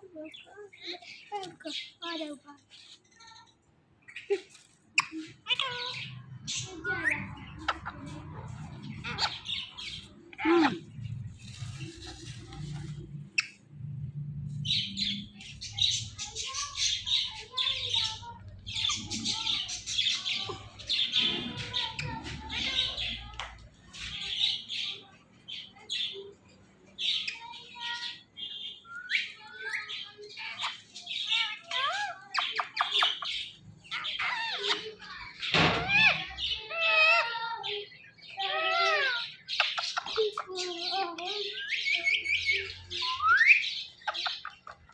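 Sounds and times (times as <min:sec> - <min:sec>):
parrots squawking and chattering: 0:00.0 - 0:44.9.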